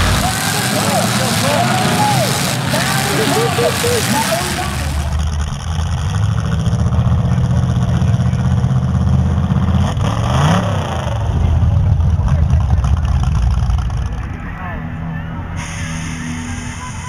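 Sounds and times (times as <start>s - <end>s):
car engine running and revving: 0.0s - 14.8s.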